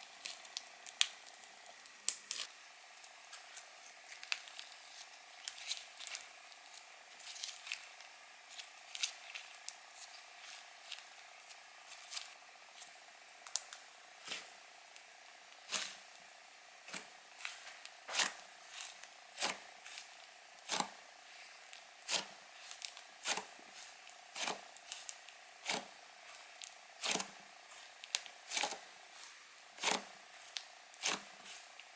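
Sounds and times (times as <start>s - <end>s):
slime squelching by hand: 0.2s - 14.6s, 16.8s - 31.9s.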